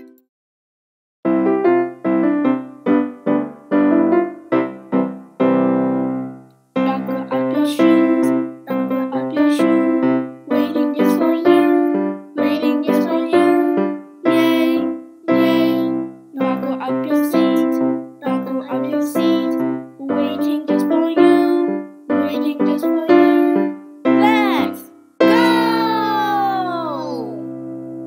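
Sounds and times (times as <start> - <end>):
children's song on piano: 1.3 - 28.0.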